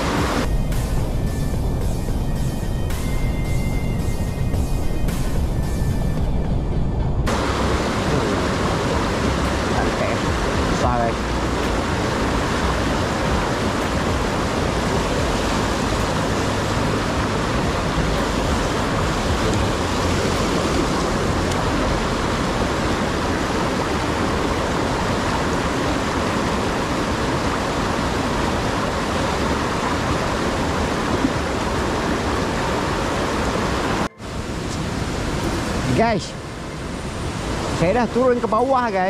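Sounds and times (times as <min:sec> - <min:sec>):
stream rushing over stones: 0:00.0 - 0:00.5, 0:07.3 - 0:39.0.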